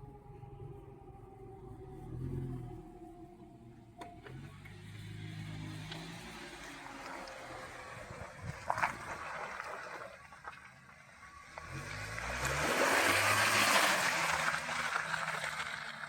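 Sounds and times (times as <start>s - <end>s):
car engine revving: 0.5s - 10.4s, 11.1s - 16.0s.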